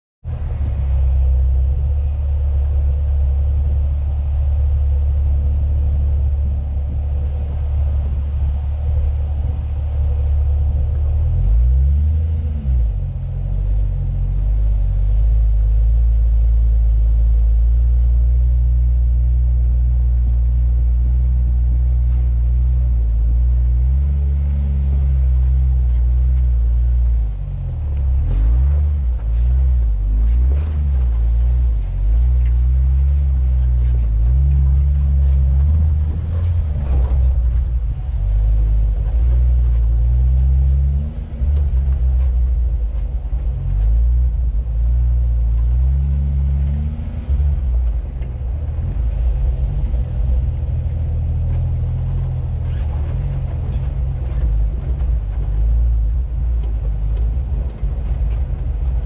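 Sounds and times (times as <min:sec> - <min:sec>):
off-road vehicle engine running: 0:00.2 - 0:59.0.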